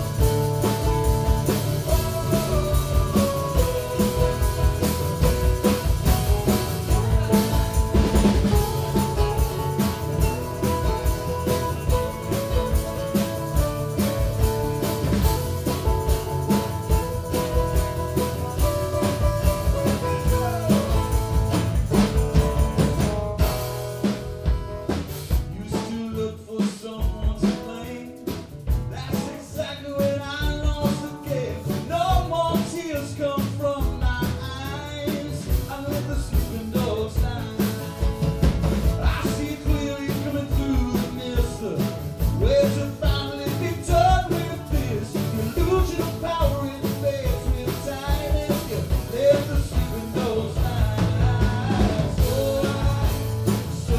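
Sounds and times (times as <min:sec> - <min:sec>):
man singing: 0:00.0 - 0:21.7, 0:25.3 - 0:53.9
acoustic guitars strummed: 0:00.0 - 0:53.9
drum kit: 0:00.0 - 0:53.9
live rock band playing: 0:00.0 - 0:53.9.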